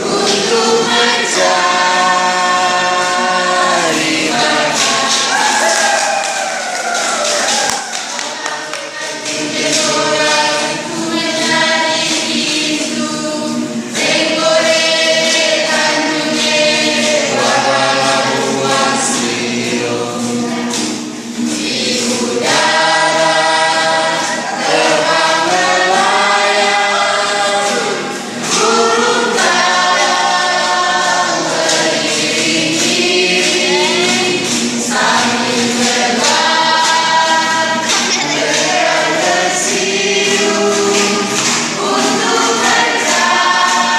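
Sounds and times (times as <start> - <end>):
group singing in harmony: 0.0 - 43.9.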